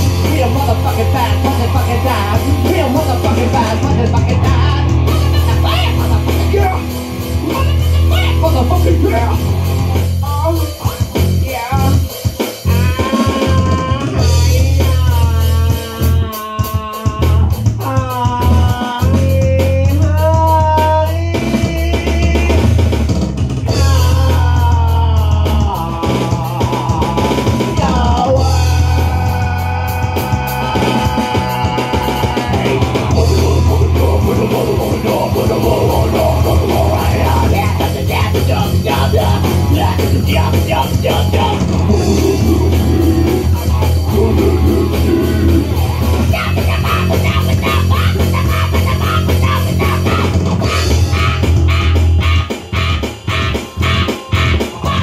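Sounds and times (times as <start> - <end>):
man singing into a microphone: 0.0 - 6.8, 10.2 - 22.8, 23.7 - 50.4
electric guitar: 0.0 - 55.0
electronic drum kit beat: 0.0 - 55.0.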